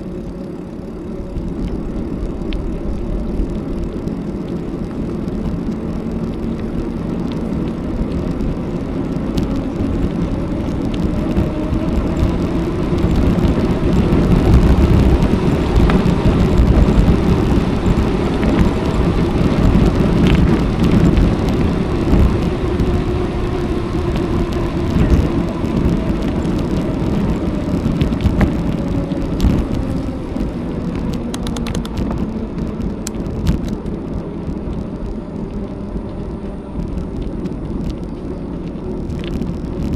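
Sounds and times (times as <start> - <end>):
bicycle tyres rolling on road: 0.0 - 39.9
wind on microphone: 0.0 - 39.9.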